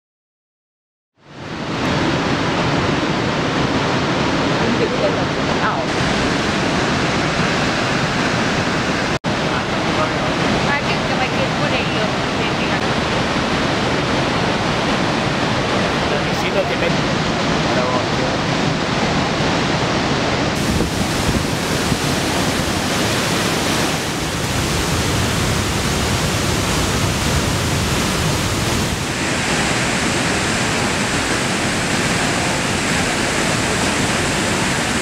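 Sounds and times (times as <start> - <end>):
waterfall rushing: 1.2 - 35.0.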